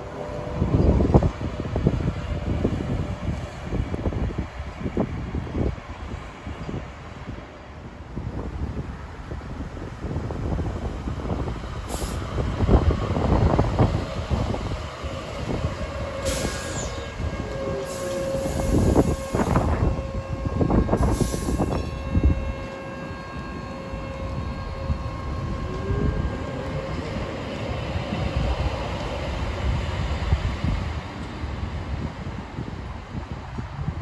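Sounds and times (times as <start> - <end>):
tram electric whine: 0.0 - 34.0
wheels rumbling on rail: 0.0 - 34.0.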